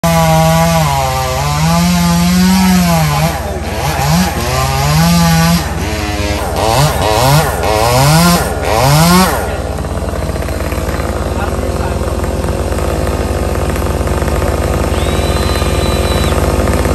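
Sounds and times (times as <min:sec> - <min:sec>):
chainsaw revving: 0:00.0 - 0:16.9.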